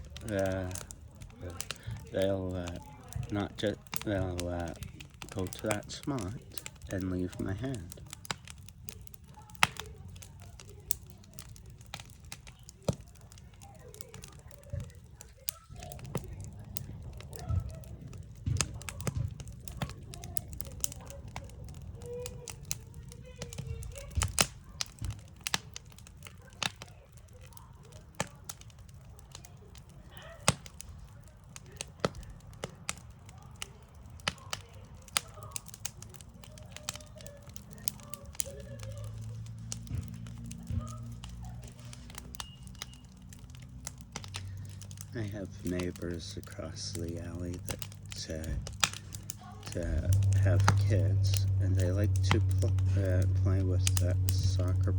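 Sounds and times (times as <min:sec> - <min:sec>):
low background rumble: 0:00.0 - 0:54.9
wood fire crackling and popping: 0:00.0 - 0:54.9.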